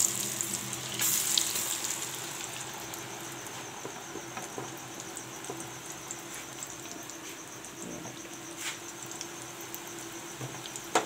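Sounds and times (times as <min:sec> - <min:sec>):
chips deep-frying in oil: 0:00.0 - 0:11.0.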